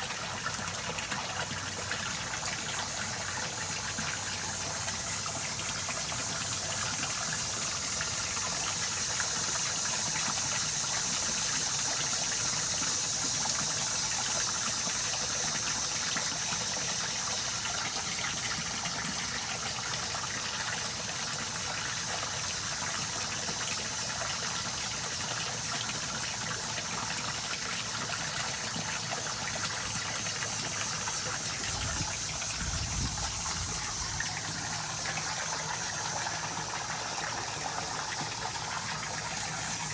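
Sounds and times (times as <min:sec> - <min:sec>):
water splashing onto pond: 0:00.0 - 0:39.9.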